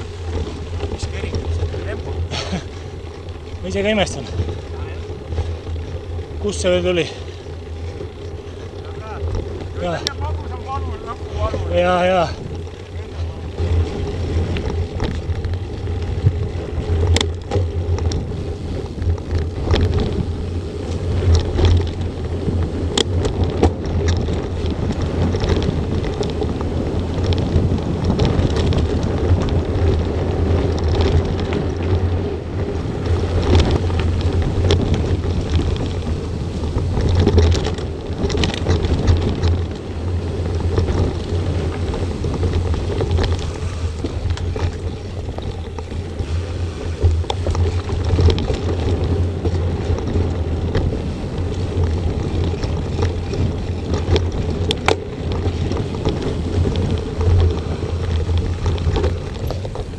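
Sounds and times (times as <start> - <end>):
bike knocks and rattles: 0.0 - 59.9
bike tyre noise: 0.0 - 59.9
wind rush on microphone: 0.0 - 59.9.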